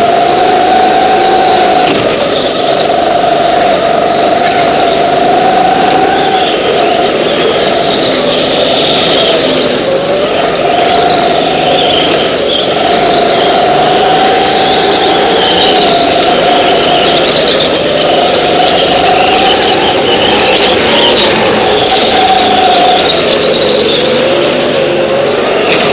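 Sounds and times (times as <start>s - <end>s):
go-kart engine revving: 0.0s - 25.9s.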